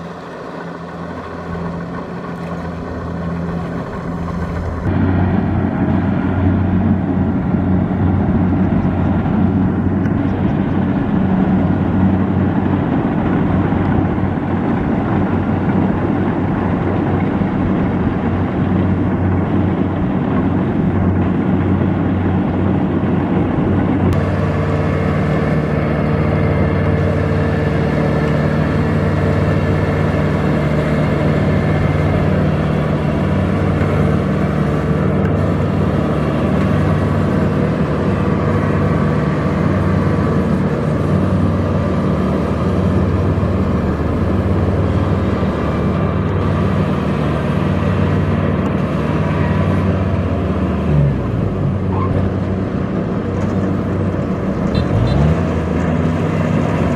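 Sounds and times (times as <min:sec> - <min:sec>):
combine harvester diesel engine: 0:00.0 - 0:56.9.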